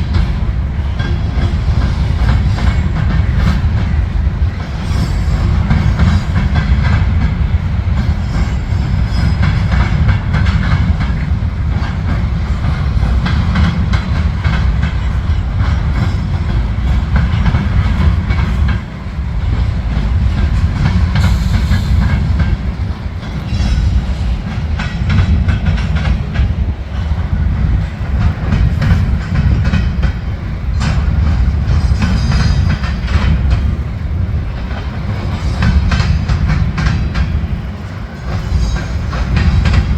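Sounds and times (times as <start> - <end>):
train low rumble: 0.0 - 39.9
train wheels clattering: 0.0 - 39.9.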